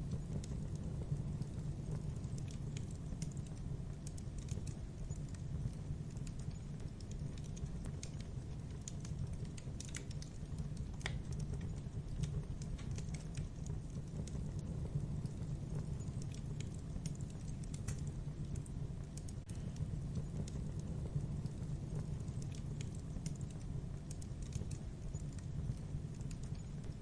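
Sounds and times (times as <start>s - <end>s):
logs burning with crackles and pops: 0.0s - 27.0s.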